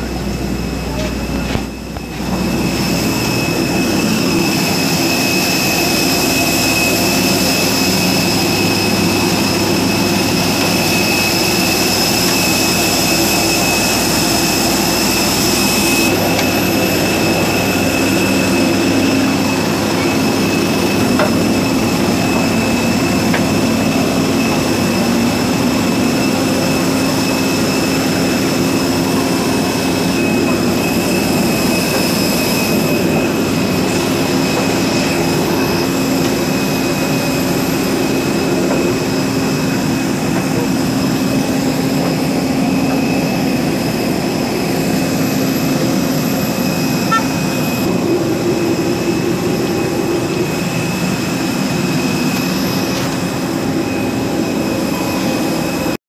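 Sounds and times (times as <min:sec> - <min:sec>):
jet engine whine and rumble: 0:00.0 - 0:56.0.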